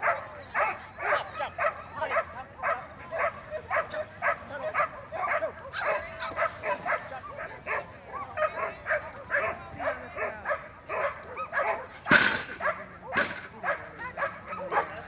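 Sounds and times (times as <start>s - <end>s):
dog barking: 0.0s - 12.0s, 12.6s - 15.0s.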